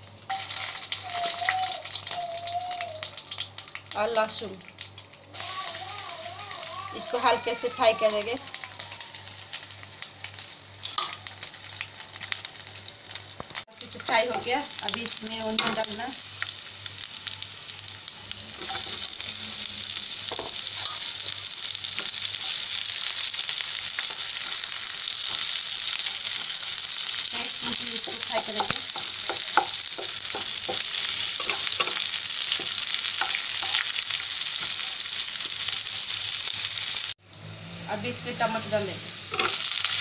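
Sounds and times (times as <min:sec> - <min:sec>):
onions sizzling in hot oil: 0:00.0 - 0:40.0.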